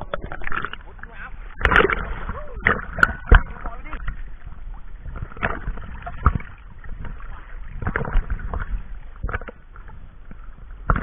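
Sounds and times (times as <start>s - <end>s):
sea water sloshing and splashing: 0.0s - 11.0s.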